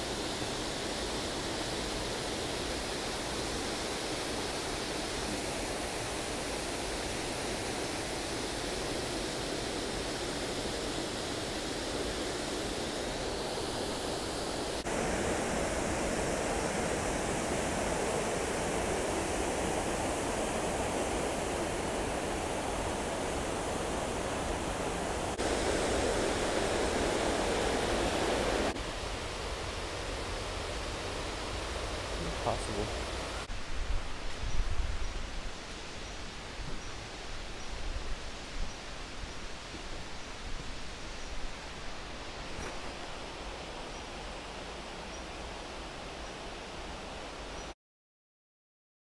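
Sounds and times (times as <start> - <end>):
waterfall rushing: 0.0 - 47.4.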